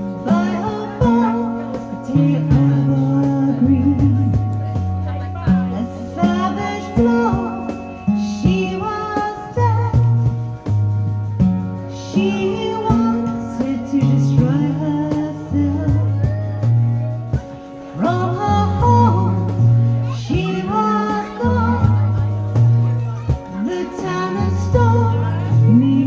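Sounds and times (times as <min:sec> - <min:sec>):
person singing: 0:00.0 - 0:10.5, 0:11.9 - 0:26.0
sustained bass line: 0:00.0 - 0:26.0.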